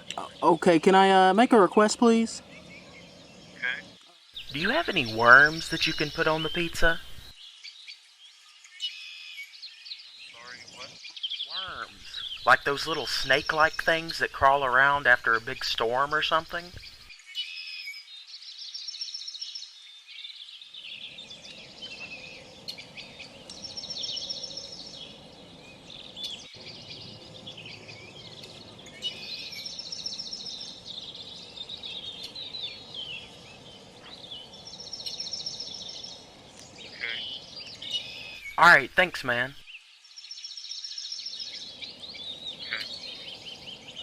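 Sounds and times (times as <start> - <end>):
rapid high bird trill: 0.0 - 7.4, 10.3 - 18.1, 21.0 - 44.0
steady background hiss: 0.0 - 17.3, 18.0 - 44.0
small birds chirping: 0.0 - 44.0.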